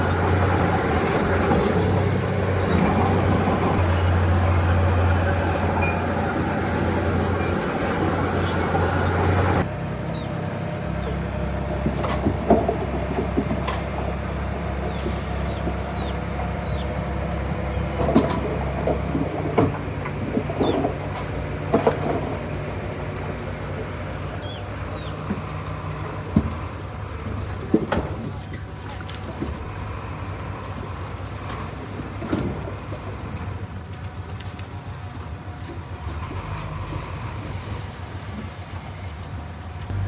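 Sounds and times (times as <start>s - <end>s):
heavy machinery diesel engine: 0.0s - 40.0s.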